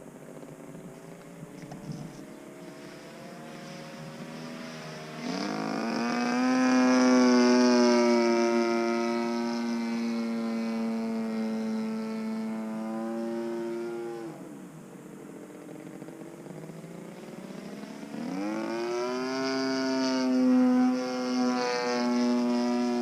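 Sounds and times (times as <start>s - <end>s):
model plane engine revving: 1.1s - 14.5s, 15.3s - 23.0s.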